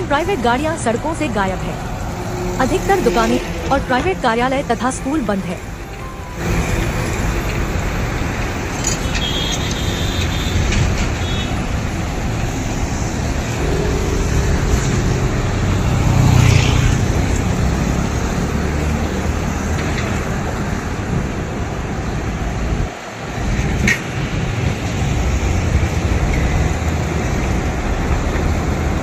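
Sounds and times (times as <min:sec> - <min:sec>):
motorbike passing: 0:00.0 - 0:29.0
road traffic rumble: 0:00.0 - 0:29.0.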